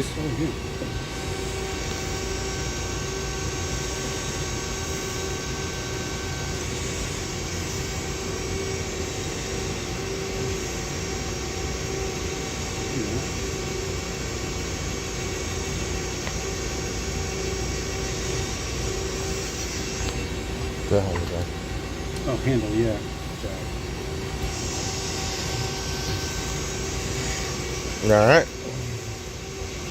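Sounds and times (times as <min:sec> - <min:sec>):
machine hum with steady tones: 0:00.0 - 0:29.9.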